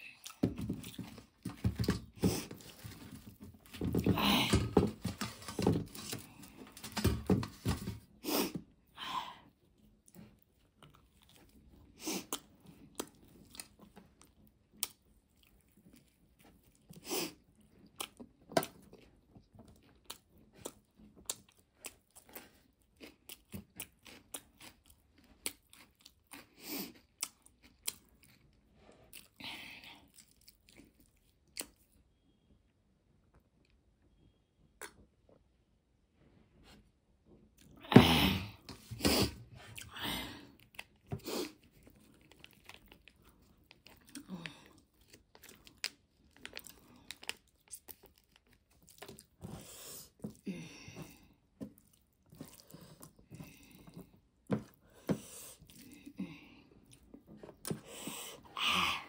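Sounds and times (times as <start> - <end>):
crunching and chewing: 0.0 - 8.8, 9.5 - 32.2, 38.8 - 58.6.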